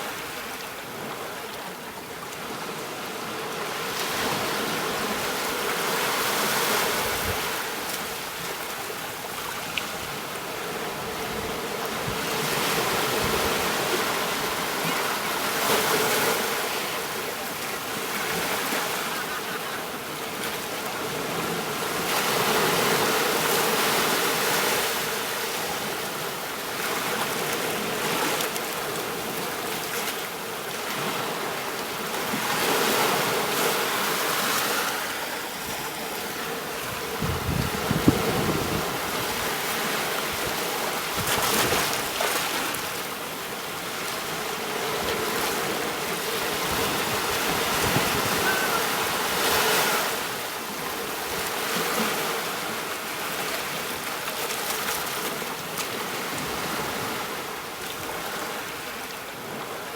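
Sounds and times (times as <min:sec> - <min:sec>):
ocean surf on beach: 0:00.0 - 0:59.9.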